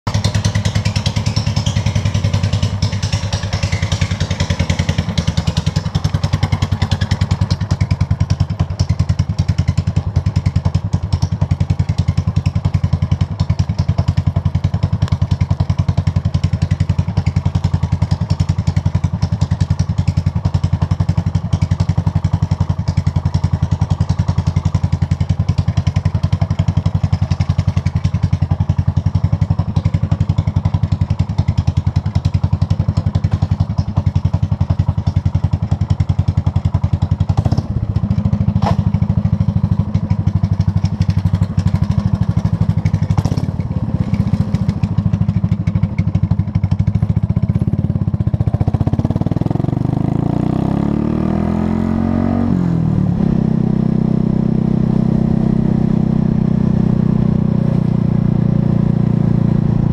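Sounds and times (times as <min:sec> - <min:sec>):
motorcycle engine idling: 0:00.1 - 0:59.9.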